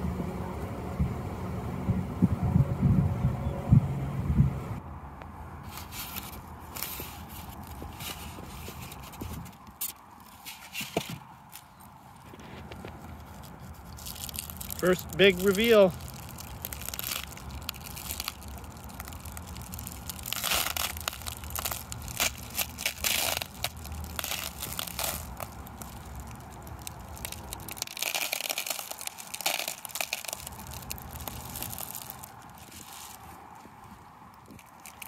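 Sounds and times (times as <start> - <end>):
bubble-wrap insulation crinkling: 5.7 - 35.0.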